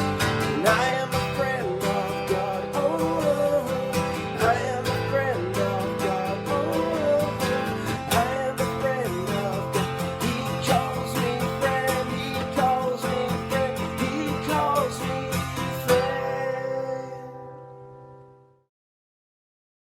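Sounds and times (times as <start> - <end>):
strummed acoustic guitar: 0.0 - 18.6.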